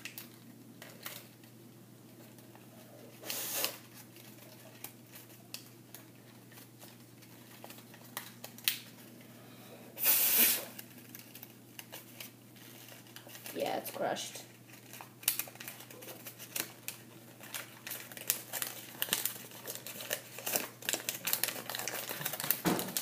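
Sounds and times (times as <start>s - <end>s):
paper rustling and crinkling: 0.0s - 9.2s, 10.7s - 23.0s.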